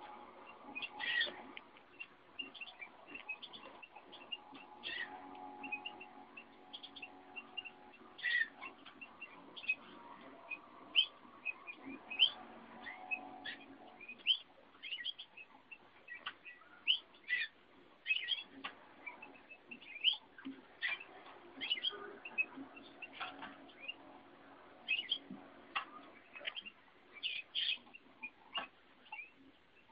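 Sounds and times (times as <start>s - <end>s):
finches chirping: 0.0s - 29.9s.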